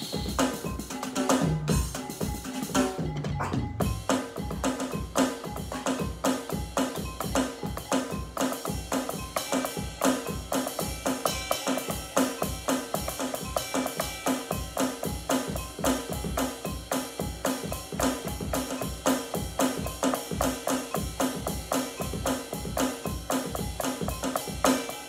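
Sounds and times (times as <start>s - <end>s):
drum kit playing fast groove: 0.0s - 25.0s.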